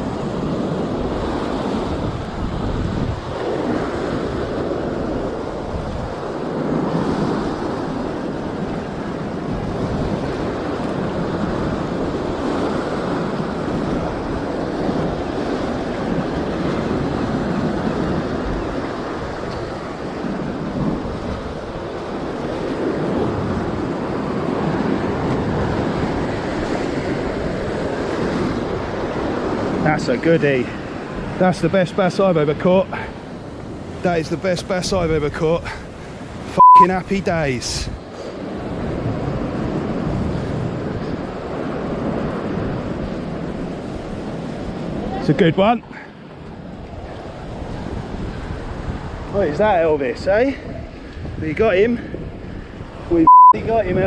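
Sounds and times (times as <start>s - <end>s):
wind buffeting microphone: 0.0s - 31.9s, 37.6s - 54.0s.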